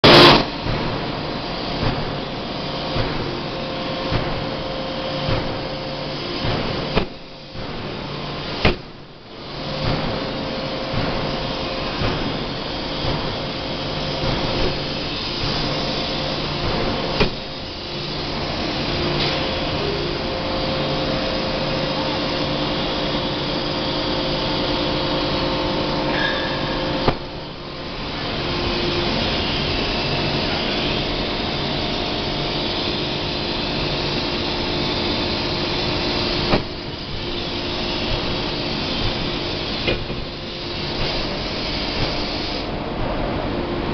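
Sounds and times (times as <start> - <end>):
machinery din with low hum: 0.0 - 43.9.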